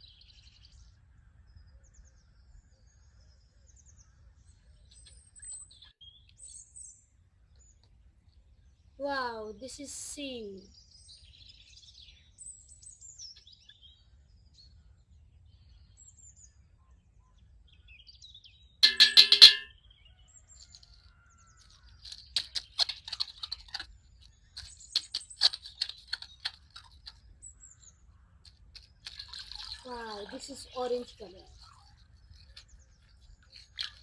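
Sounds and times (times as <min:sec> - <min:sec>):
birds chirping and twittering: 0:00.0 - 0:09.0, 0:10.2 - 0:34.0.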